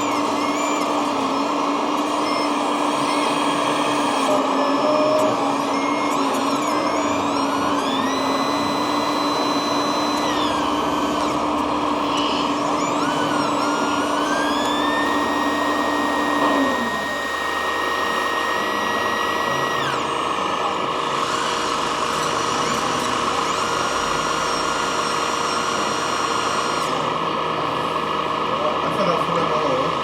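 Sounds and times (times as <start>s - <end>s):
electric motor and hydraulic pump whine: 0.0s - 30.0s.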